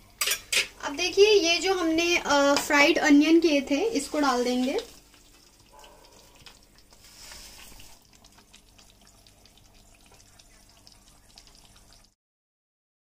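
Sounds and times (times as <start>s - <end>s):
pot sizzling and bubbling: 0.0s - 12.2s.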